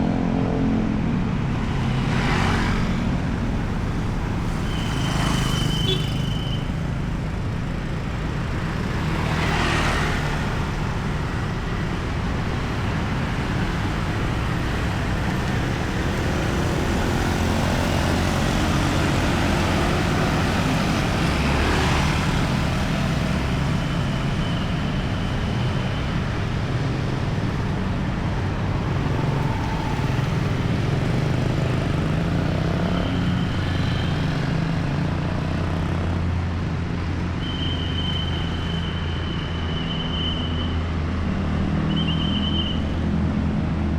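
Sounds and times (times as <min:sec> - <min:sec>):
car and motorcycle engines: 0:00.0 - 0:43.9
tyres on asphalt: 0:00.0 - 0:43.9
vehicles passing close by: 0:00.0 - 0:43.9.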